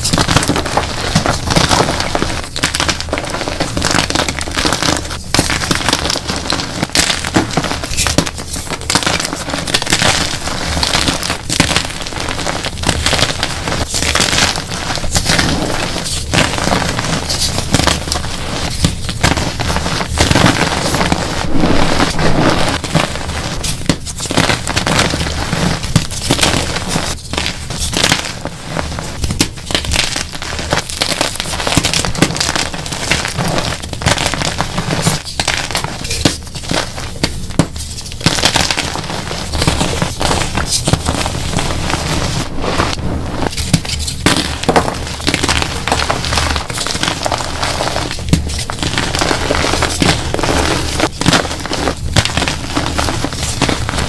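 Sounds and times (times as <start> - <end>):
chalk crunching by hand: 0.0 - 54.0.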